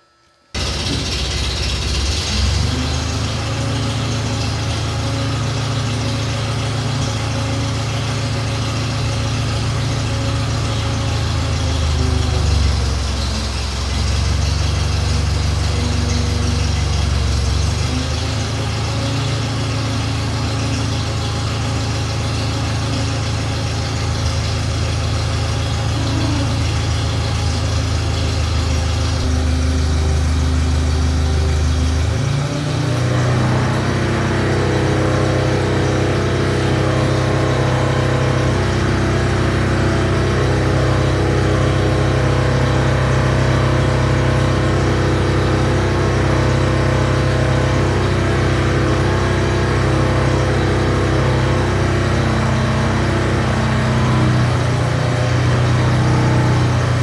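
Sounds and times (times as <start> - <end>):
crane engine running: 0.0 - 57.0.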